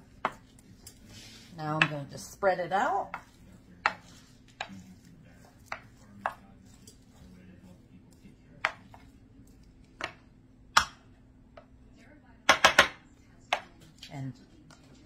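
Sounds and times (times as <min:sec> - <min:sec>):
wooden spoon spreading mixture: 0:00.0 - 0:11.8, 0:13.2 - 0:15.0.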